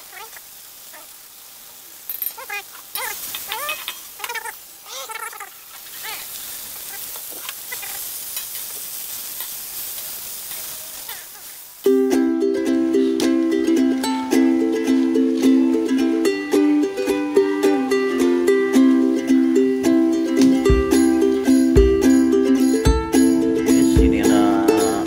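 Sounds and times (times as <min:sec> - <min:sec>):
cabbage sizzling in a wok: 0:00.0 - 0:25.0.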